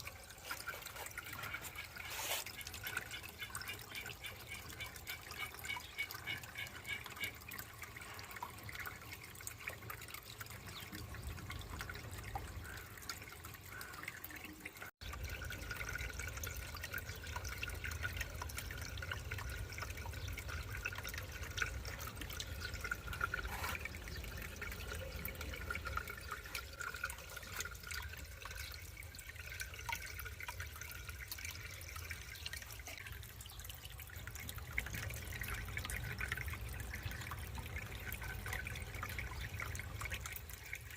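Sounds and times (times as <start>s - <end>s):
water trickling and dripping: 0.0s - 40.9s.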